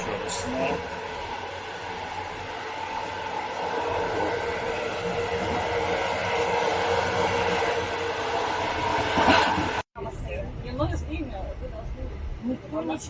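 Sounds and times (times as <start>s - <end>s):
train clatter: 0.0s - 11.9s
train carriage running noise: 0.0s - 13.0s.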